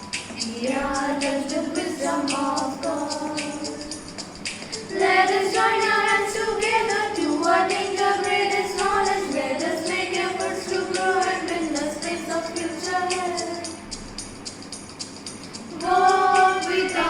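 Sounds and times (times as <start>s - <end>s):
jingly percussive beat: 0.0s - 17.0s.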